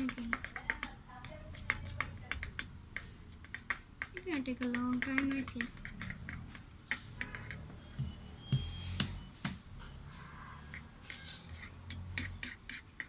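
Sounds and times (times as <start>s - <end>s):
utensil tapping against a bowl: 0.0s - 8.2s, 10.6s - 13.0s.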